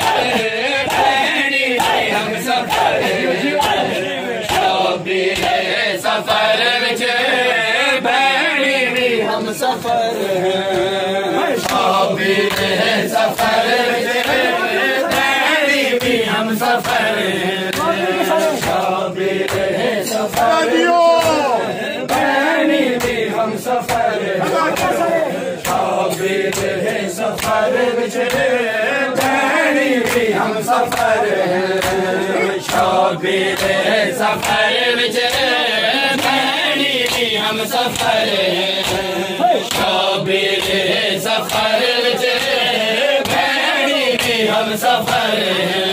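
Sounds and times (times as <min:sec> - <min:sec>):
hands slapping chests: 0:00.0 - 0:06.4, 0:11.5 - 0:45.4
men chanting together: 0:00.0 - 0:45.9.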